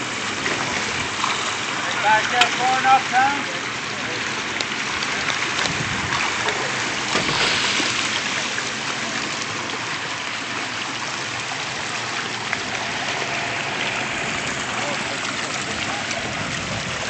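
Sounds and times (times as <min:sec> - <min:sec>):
fish splashing at the surface: 0:00.0 - 0:17.0.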